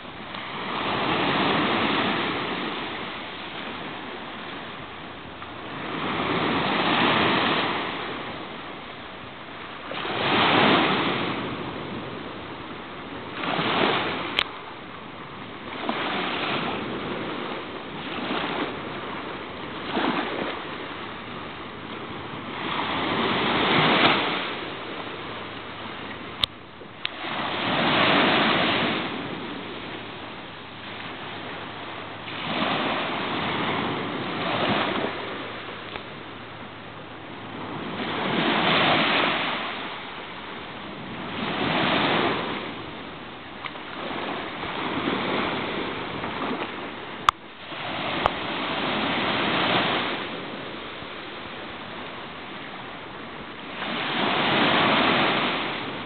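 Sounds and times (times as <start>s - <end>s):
waves washing up a beach: 0.0s - 56.0s.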